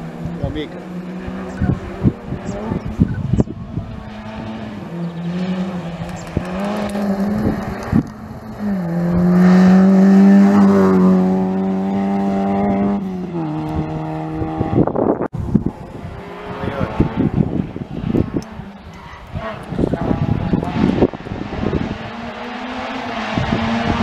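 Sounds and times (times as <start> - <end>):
rally car engine passing: 0.0 - 24.0.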